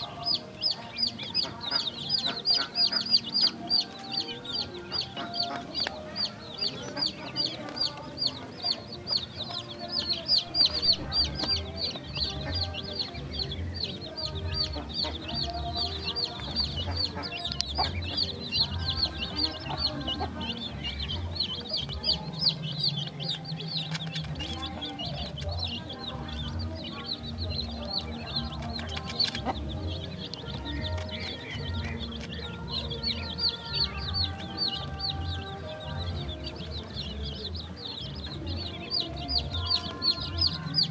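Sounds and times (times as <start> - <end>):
ducklings and chicks peeping: 0.0 - 40.9.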